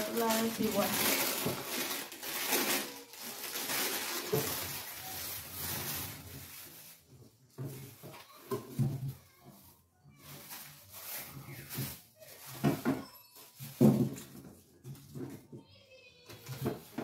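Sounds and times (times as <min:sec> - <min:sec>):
plastic bags rustling: 0:00.0 - 0:17.0.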